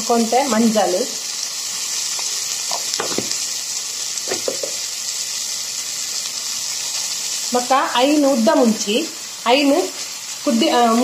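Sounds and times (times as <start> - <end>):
vegetables frying in oil: 0.0 - 11.0.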